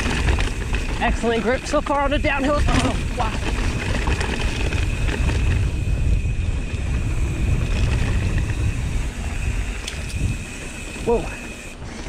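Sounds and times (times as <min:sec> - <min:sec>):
bike tyres on dirt trail: 0:00.0 - 0:12.0
wind rumbling on microphone: 0:00.0 - 0:12.0.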